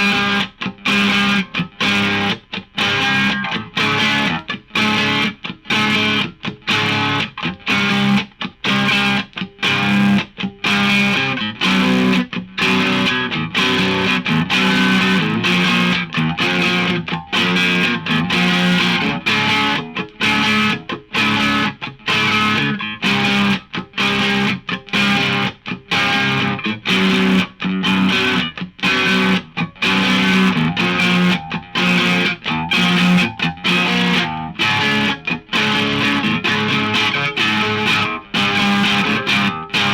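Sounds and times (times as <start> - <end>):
overdriven electric guitar chords: 0.0 - 39.9.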